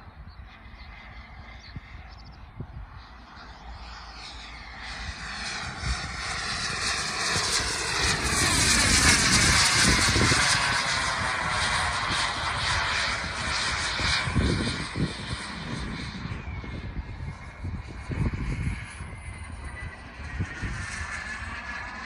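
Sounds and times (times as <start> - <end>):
model jet engine hiss and whine: 0.0 - 22.0.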